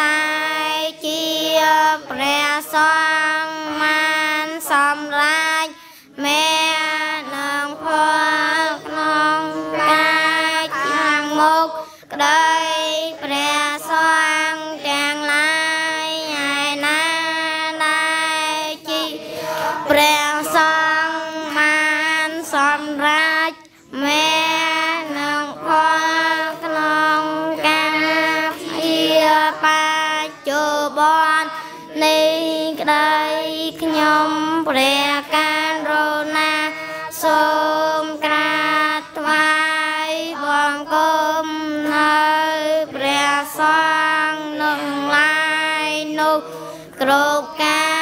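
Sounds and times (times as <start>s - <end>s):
children chanting in unison: 0.0s - 48.0s.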